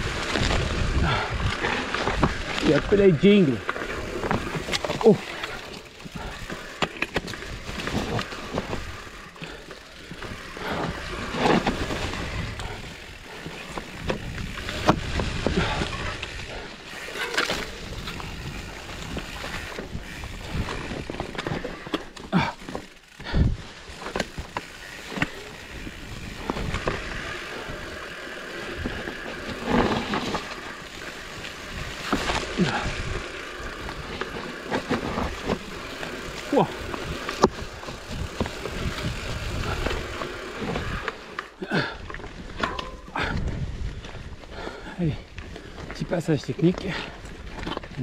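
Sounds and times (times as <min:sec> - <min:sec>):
bike knocking and rattling: 0:00.0 - 0:48.0
bike tyre noise on trail: 0:00.0 - 0:48.0.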